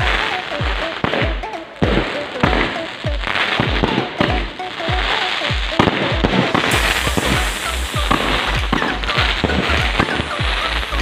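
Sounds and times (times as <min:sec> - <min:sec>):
fireworks bangs and crackling: 0:00.0 - 0:11.0
music playing: 0:00.0 - 0:11.0.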